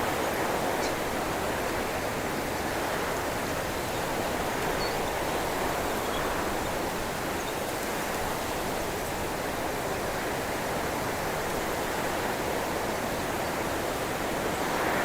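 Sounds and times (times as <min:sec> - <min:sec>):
wind through bush branches: 0:00.0 - 0:15.0.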